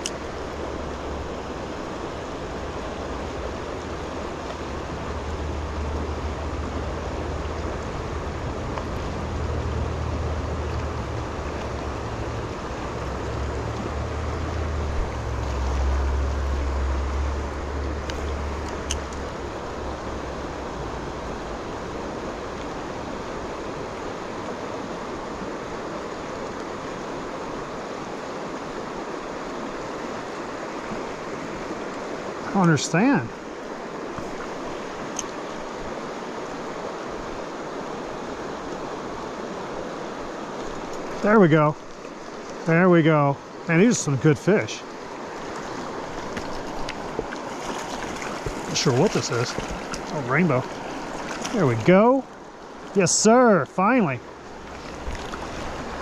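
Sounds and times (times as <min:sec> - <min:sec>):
river current rushing: 0:00.0 - 0:56.0.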